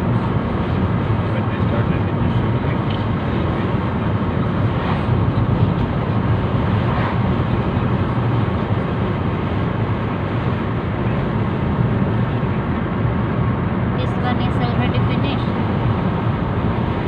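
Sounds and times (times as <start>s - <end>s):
car engine hum: 0.0s - 17.0s.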